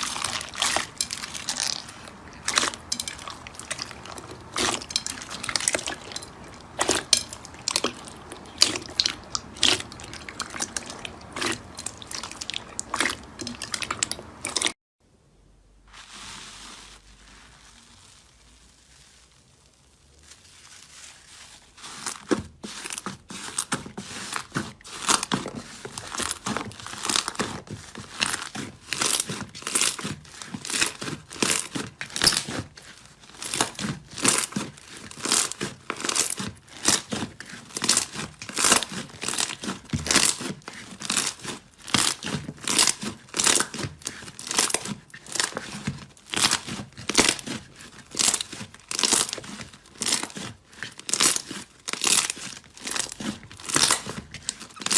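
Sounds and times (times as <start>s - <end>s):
slime squished by hand: 0.0s - 14.7s, 17.3s - 54.9s.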